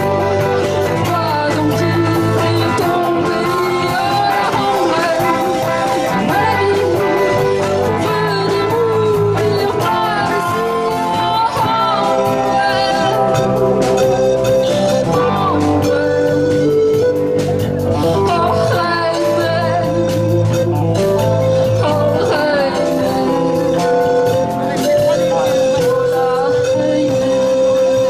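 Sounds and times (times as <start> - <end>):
live rock band playing: 0.0 - 28.0
woman singing into microphone: 0.0 - 28.0.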